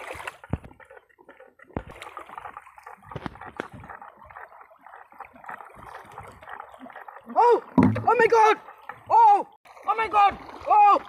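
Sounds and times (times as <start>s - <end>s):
river water gurgling: 0.0s - 11.0s.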